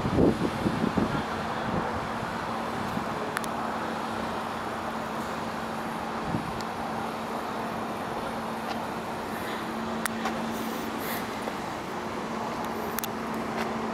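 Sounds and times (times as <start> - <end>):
subway train rumbling: 0.0 - 13.9.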